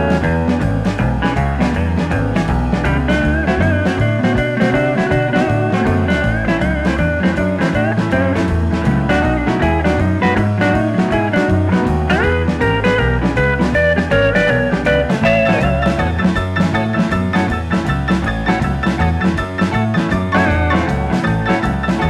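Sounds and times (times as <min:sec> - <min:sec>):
bass: 0:00.0 - 0:22.0
blues guitar music: 0:00.0 - 0:22.0
guitar slide: 0:00.0 - 0:22.0
steady drum beat: 0:00.0 - 0:22.0.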